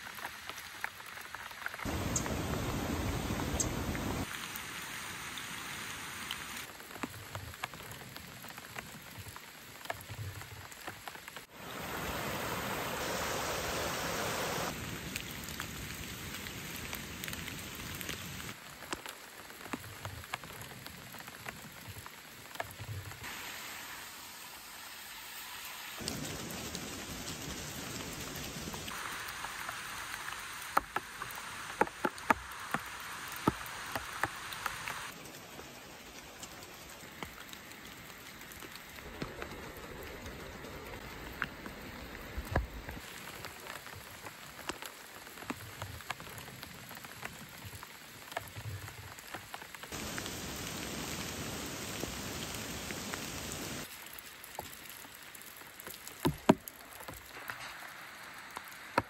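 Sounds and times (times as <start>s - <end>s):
close raindrops striking microphone: 0.0s - 23.3s, 25.8s - 59.0s
steady rain falling: 0.0s - 59.0s.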